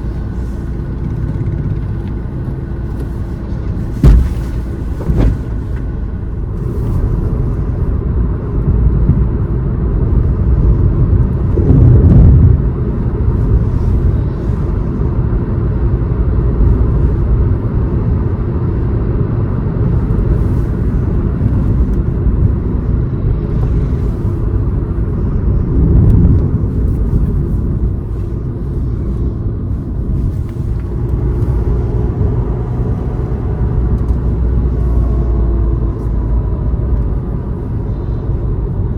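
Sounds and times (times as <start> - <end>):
car tyres and engine rumble: 0.0 - 38.9.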